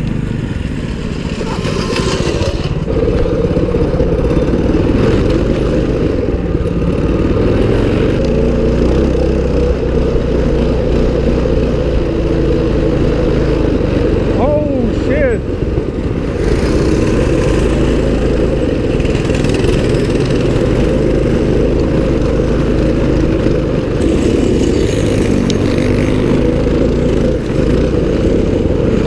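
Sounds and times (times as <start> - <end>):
mini bike engine running: 0.0 - 29.0.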